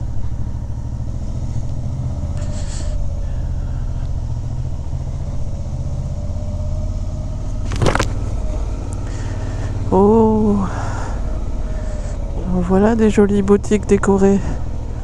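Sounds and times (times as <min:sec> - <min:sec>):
faint whine: 0:00.0 - 0:15.0
motorcycle engine rumbling: 0:00.0 - 0:15.0.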